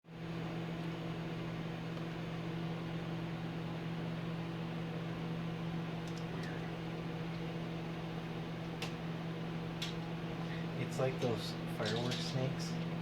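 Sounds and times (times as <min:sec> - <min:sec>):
microwave oven humming: 0:00.1 - 0:13.0.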